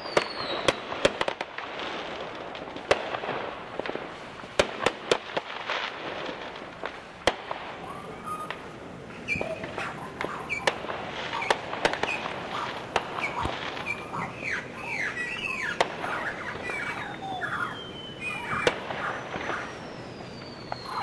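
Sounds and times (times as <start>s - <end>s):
sharp pops: 2.5s - 21.0s.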